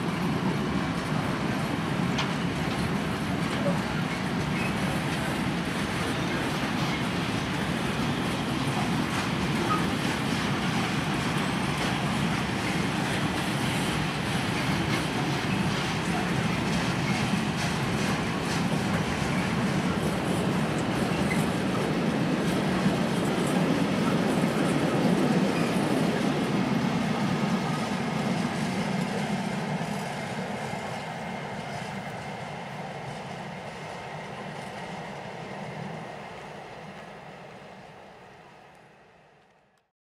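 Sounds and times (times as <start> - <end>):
freight train wheels on rails: 0.0 - 39.8.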